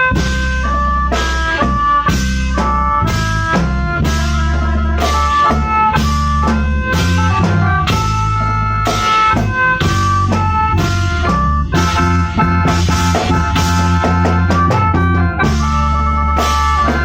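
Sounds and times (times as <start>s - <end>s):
deep low bass line: 0.0s - 17.0s
drum-kit beat: 0.0s - 17.0s
free-reed mouth organs playing chords: 0.0s - 17.0s.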